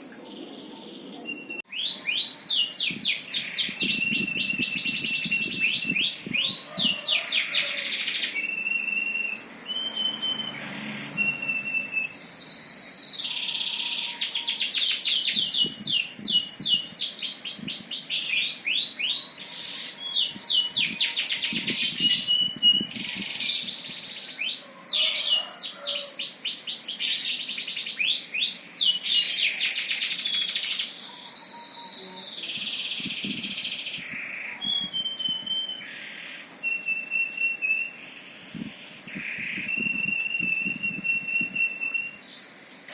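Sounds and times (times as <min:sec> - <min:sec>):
songbird trilling and whistling: 0:01.2 - 0:38.0, 0:39.1 - 0:42.9.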